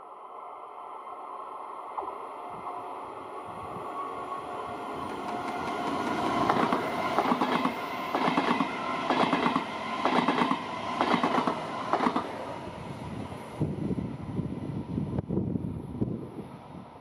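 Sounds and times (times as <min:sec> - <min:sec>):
train rushing past: 0:00.8 - 0:17.0.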